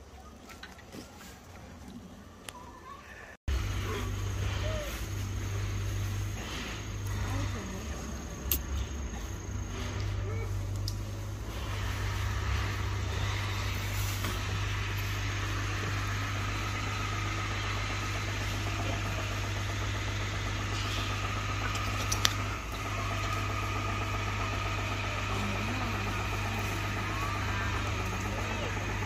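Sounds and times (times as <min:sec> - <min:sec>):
constant noisy hiss: 0:00.0 - 0:29.0
low mechanical hum: 0:00.0 - 0:29.0.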